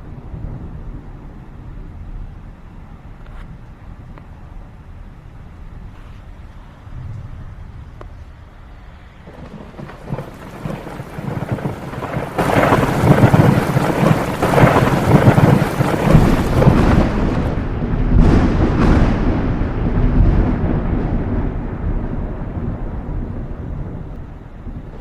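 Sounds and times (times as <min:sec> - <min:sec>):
steady rain: 0:00.0 - 0:25.0
thunder rolling: 0:00.0 - 0:25.0.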